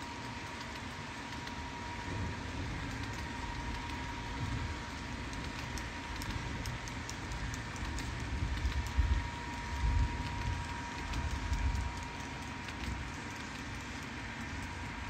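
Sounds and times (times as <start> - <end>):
thin steady whine: 0.0 - 15.0.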